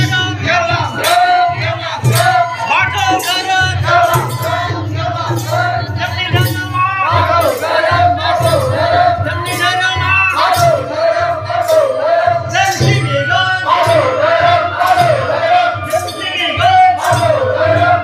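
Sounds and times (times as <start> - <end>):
percussion hits: 0.0 - 18.0.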